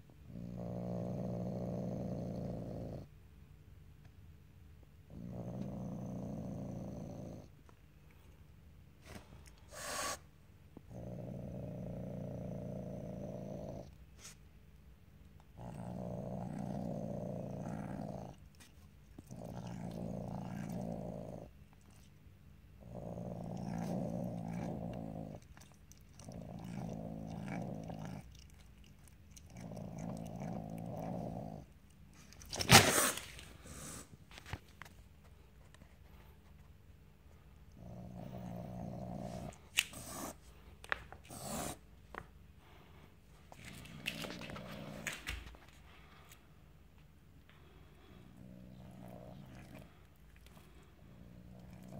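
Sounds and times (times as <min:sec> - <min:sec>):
cat rumbling while eating: 0:00.0 - 0:03.2, 0:05.0 - 0:08.3, 0:09.0 - 0:14.4, 0:15.4 - 0:36.6, 0:37.3 - 0:46.4, 0:47.4 - 0:51.9.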